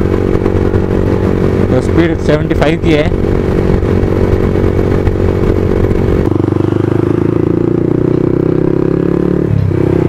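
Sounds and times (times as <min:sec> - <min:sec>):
wind rumble on microphone: 0:00.0 - 0:08.7
motorcycle engine: 0:00.0 - 0:10.0.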